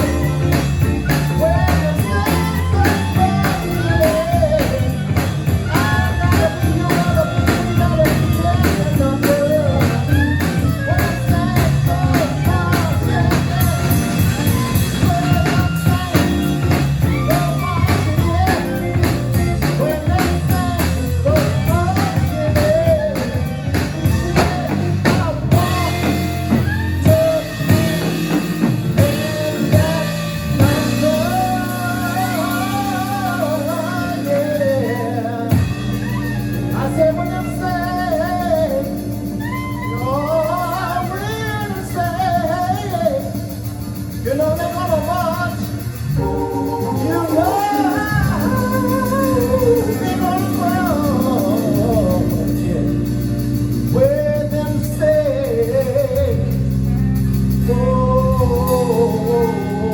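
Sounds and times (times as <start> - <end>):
drum kit: 0.0 - 59.9
live jazz band playing: 0.0 - 59.9.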